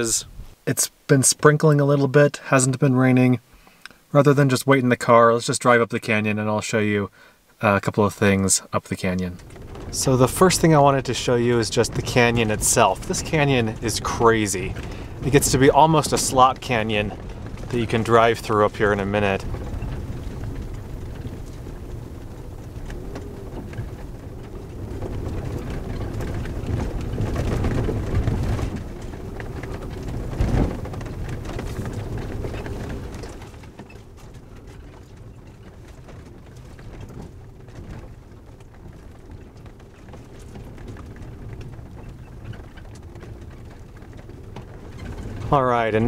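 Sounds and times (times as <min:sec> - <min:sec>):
tyres rumbling on gravel: 0:07.8 - 0:46.0.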